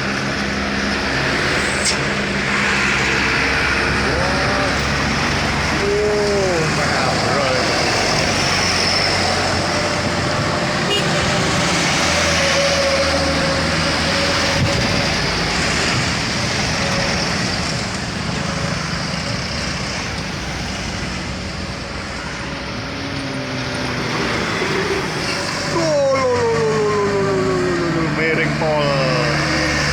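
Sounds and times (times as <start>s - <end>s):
heavy truck engines working hard: 0.0s - 29.9s
tyre and traffic noise: 0.0s - 29.9s.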